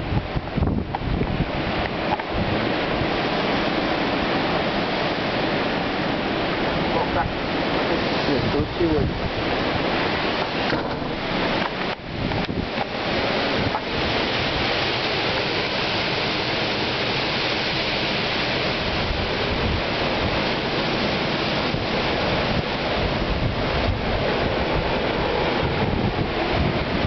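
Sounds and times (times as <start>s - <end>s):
strong wind rushing through trees: 0.0s - 27.0s
wind buffeting the microphone: 0.0s - 27.0s.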